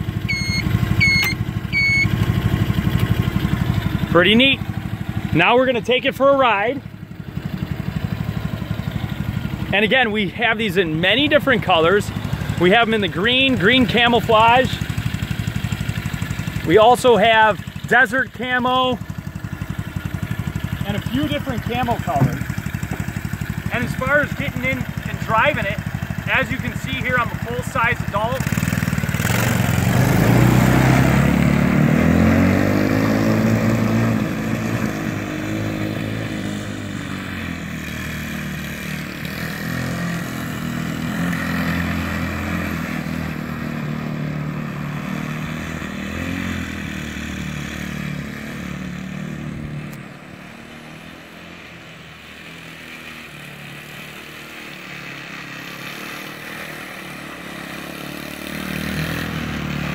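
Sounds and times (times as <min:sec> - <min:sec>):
small engine revving: 0:00.0 - 0:06.7, 0:07.4 - 0:59.9.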